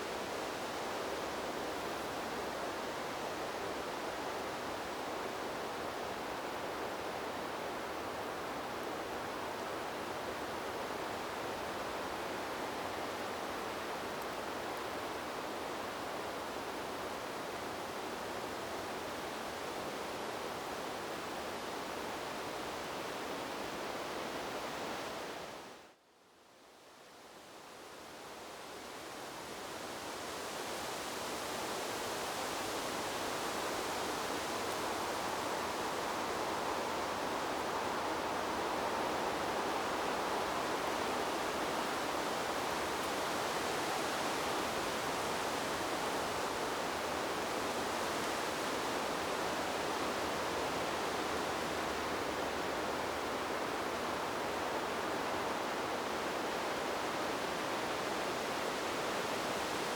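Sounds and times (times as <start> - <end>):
wind rushing through trees: 0.0 - 59.9.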